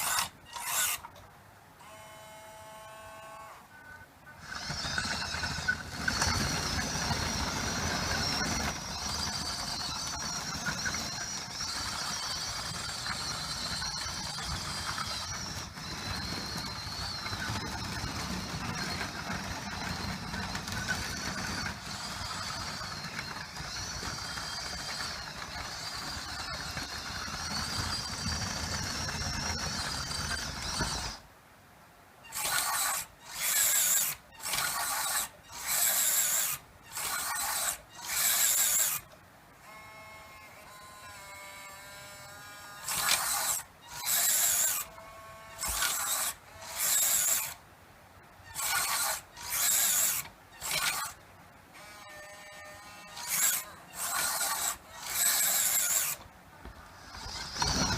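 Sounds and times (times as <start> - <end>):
small electric motors whirring: 0.0 - 1.2, 1.8 - 31.2, 32.2 - 47.6, 48.4 - 57.9.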